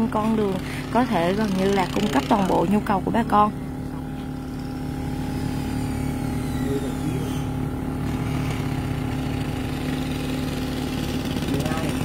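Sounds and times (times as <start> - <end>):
small motorbike approaching: 0.0 - 12.0
steady engine hum: 0.0 - 12.0.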